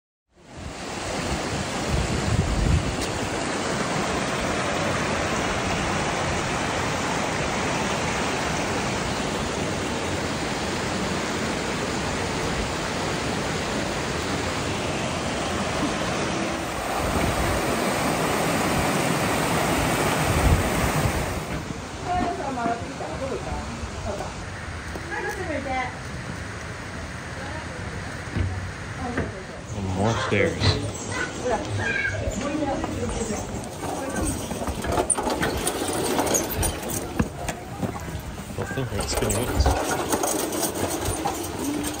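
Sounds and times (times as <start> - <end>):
stream rushing over rocks: 0.4 - 42.0.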